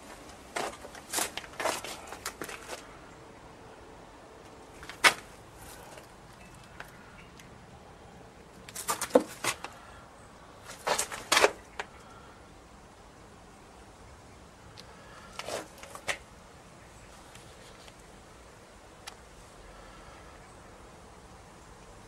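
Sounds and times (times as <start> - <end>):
faint background noise: 0.0 - 22.0.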